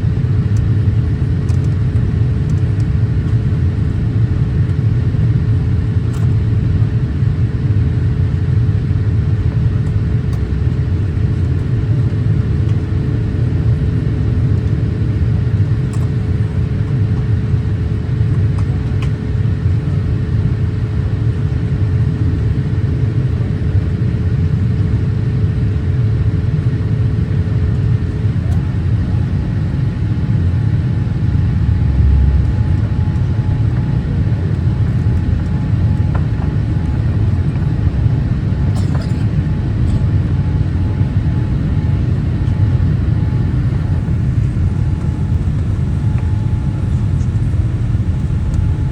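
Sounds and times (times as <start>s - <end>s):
airliner cabin rumble: 0.0s - 48.9s
faint steady hum: 0.0s - 48.9s.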